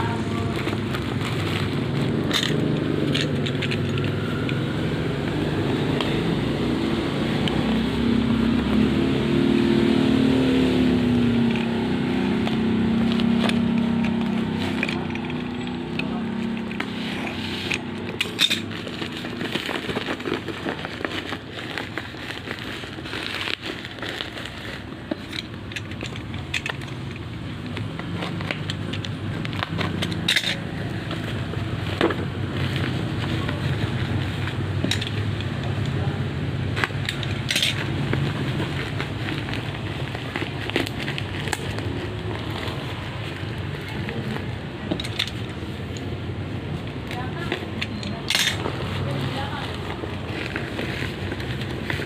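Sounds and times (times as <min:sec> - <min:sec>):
plastic wrapping crinkling: 0:00.0 - 0:04.8, 0:11.1 - 0:35.9, 0:36.6 - 0:52.0.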